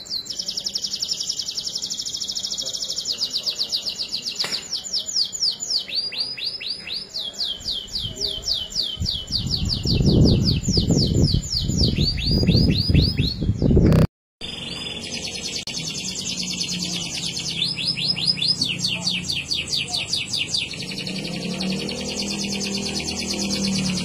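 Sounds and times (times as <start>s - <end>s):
canaries singing trills: 0.0s - 24.0s.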